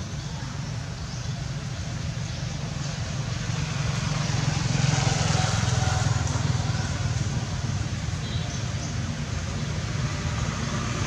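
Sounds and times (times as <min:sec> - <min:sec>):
vehicle engine rumble passing: 0:00.0 - 0:11.0.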